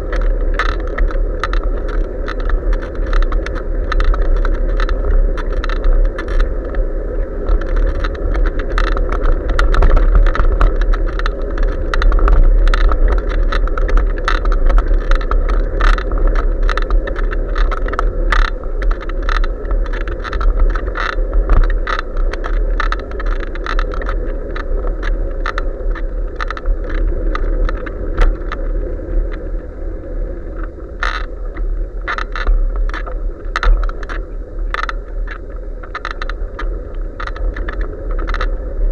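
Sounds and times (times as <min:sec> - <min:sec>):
wind and tyre rumble: 0:00.0 - 0:38.9
bicycle rattling clicks: 0:00.1 - 0:06.8, 0:07.4 - 0:28.6, 0:30.6 - 0:31.3, 0:32.1 - 0:38.5.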